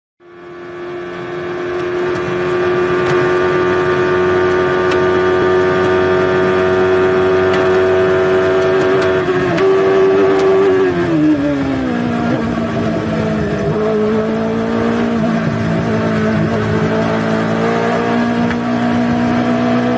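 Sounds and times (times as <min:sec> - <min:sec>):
racing car engine at full revs: 0:00.2 - 0:19.9.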